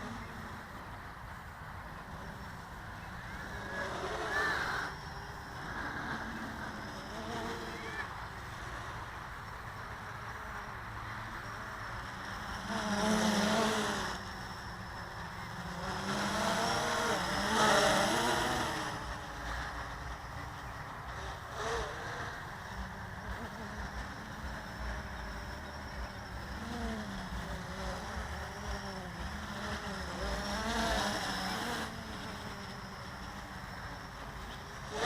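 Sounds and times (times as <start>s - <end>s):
quadcopter propellers whirring: 0.0s - 35.0s.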